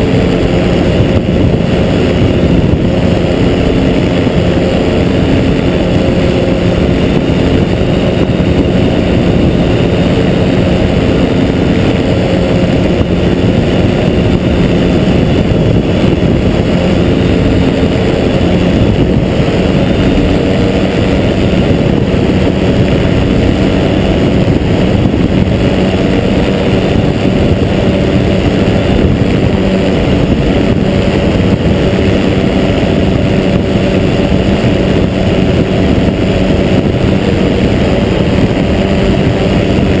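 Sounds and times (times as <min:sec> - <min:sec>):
aircraft engine droning: 0:00.0 - 0:40.0
wind rushing on microphone: 0:00.0 - 0:40.0.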